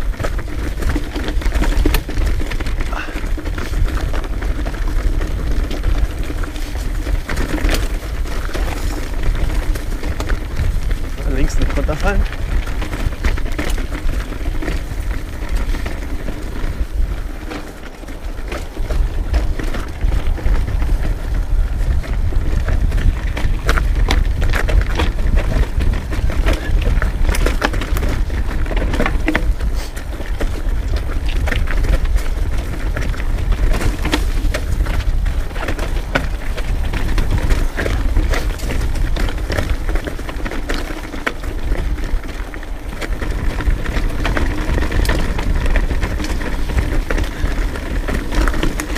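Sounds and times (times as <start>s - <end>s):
bike clicking and rattling: 0.0s - 48.9s
wind rumble on microphone: 0.0s - 48.9s.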